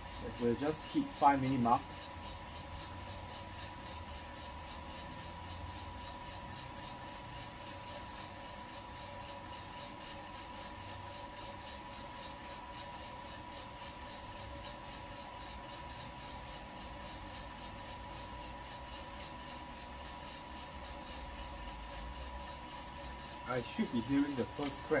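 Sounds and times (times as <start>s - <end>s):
coffee roaster whirring: 0.0s - 25.0s.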